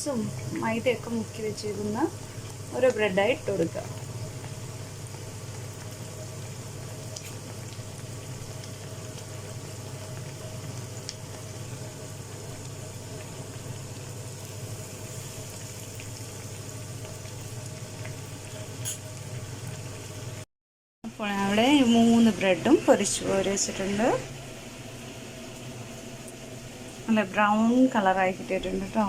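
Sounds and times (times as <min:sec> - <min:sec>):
food sizzling in hot oil: 0:00.0 - 0:20.4, 0:21.2 - 0:29.0.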